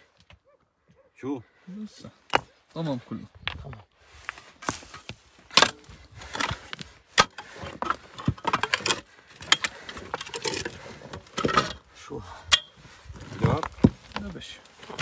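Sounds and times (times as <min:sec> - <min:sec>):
grit and stones rattling: 0:02.3 - 0:15.0.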